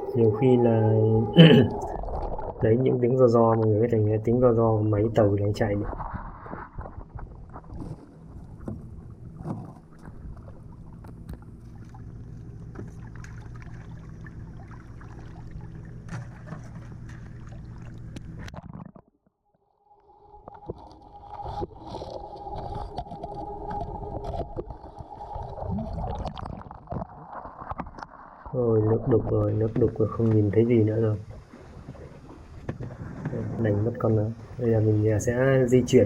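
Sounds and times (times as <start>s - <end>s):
boat engine heard underwater: 0.0s - 36.0s.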